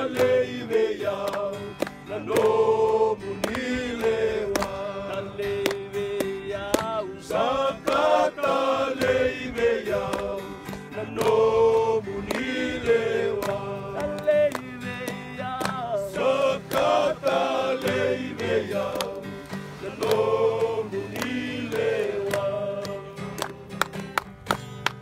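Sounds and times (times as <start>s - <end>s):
voices singing a hymn: 0.0s - 24.0s
strummed acoustic guitar: 0.0s - 25.0s.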